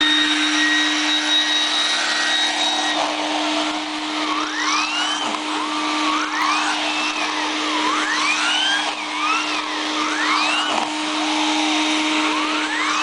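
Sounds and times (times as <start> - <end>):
rising and falling tones: 0.0 - 13.0
vacuum cleaner running: 0.0 - 13.0.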